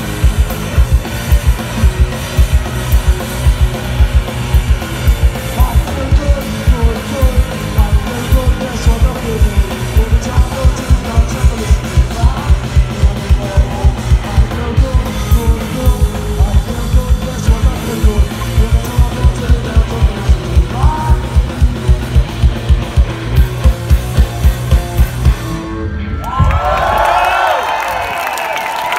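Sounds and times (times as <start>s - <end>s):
pounding drum kit: 0.0s - 28.2s
punk rock band playing: 0.0s - 28.9s.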